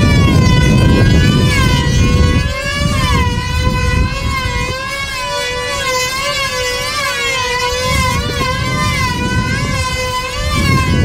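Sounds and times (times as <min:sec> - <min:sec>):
model airplane engines whining: 0:00.0 - 0:11.0.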